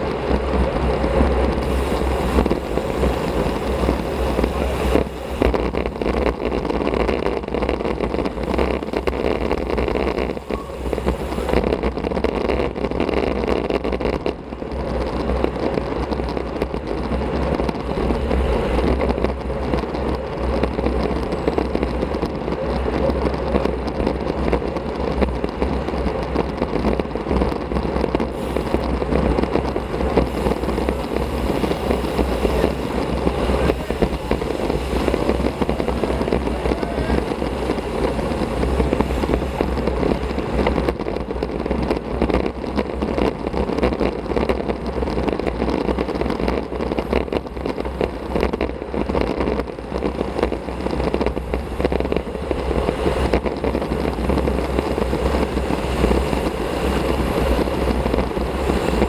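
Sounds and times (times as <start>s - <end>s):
low rumble: 0.0s - 59.0s
wind rushing over microphone: 0.0s - 59.0s.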